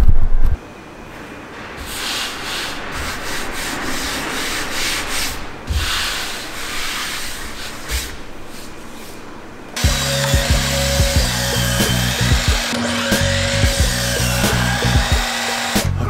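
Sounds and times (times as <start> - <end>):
palms rubbing wooden boards: 1.5 - 16.0.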